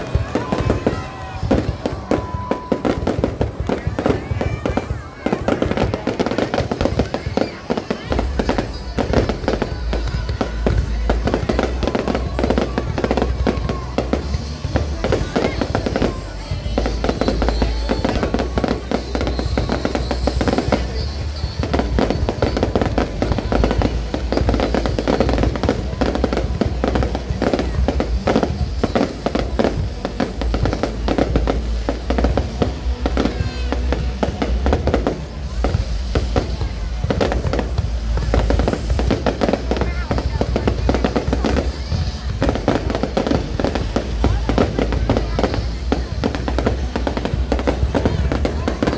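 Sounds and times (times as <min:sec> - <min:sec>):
fireworks bangs and crackling: 0:00.0 - 0:48.9
music: 0:00.0 - 0:48.9.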